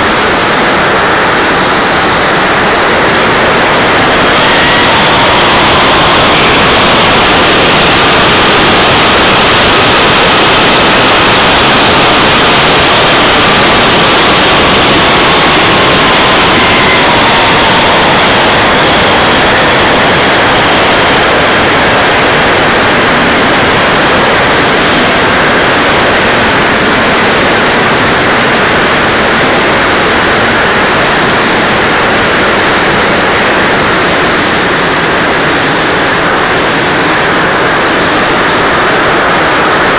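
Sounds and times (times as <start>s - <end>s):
model jet engine rushing: 0.0s - 39.9s.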